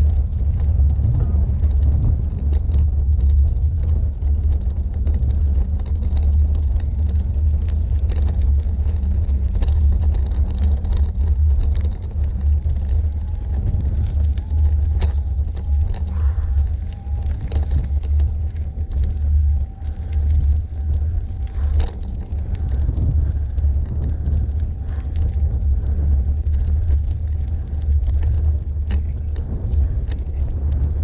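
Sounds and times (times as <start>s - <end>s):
tyres rattling on loose stones: 0.0s - 31.0s
wind rumble on microphone: 0.0s - 31.0s.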